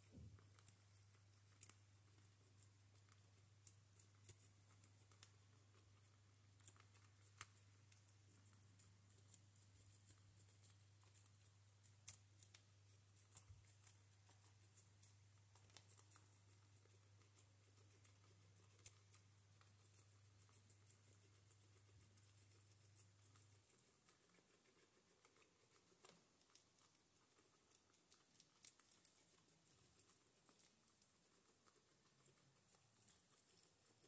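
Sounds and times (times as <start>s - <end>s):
guinea pigs chewing lettuce: 0.0s - 34.0s.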